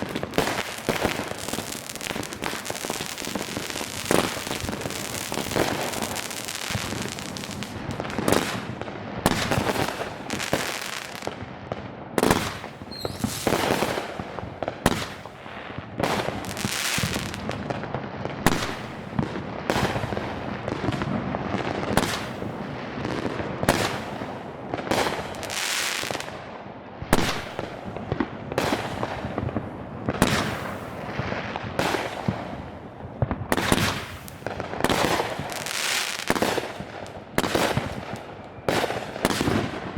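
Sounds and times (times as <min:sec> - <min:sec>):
fireworks booming bursts: 0:00.0 - 0:26.4, 0:27.1 - 0:39.9
fireworks crackling: 0:00.0 - 0:26.5, 0:27.1 - 0:39.9.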